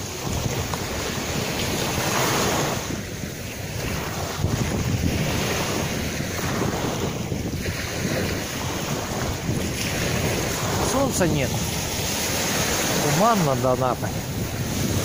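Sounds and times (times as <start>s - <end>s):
small waves breaking on beach: 0.0s - 15.0s
wind buffeting microphone: 0.0s - 15.0s.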